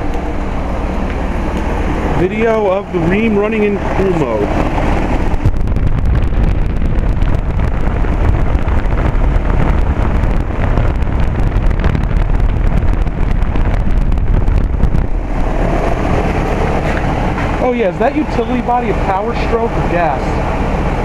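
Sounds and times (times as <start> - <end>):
heat pump unit running: 0.0 - 21.0
wind buffeting microphone: 0.0 - 21.0.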